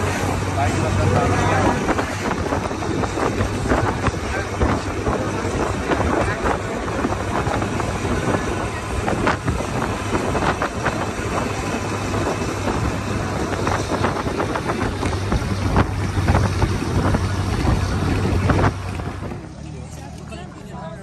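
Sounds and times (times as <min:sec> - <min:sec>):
tyres on gravel road noise: 0:00.0 - 0:21.0
vehicle engine hum: 0:00.0 - 0:21.0.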